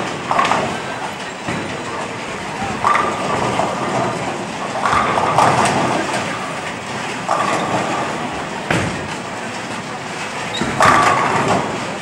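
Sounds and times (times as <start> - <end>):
bowling balls rolling on lanes: 0.0 - 12.0
bowling pins clattering: 0.0 - 12.0.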